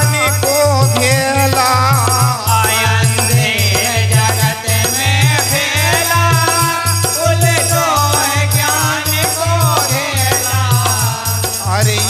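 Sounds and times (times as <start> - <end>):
hand drum beating rhythm: 0.0 - 12.0
harmonium melody: 0.0 - 12.0
jingling hand percussion: 0.0 - 12.0.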